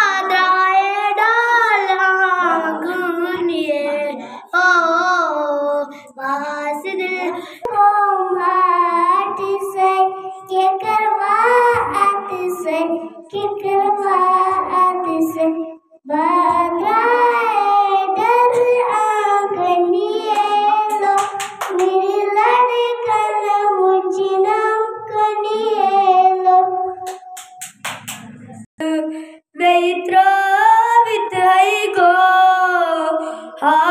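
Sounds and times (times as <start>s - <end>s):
child singing into microphone: 0.0s - 27.4s, 28.4s - 33.9s.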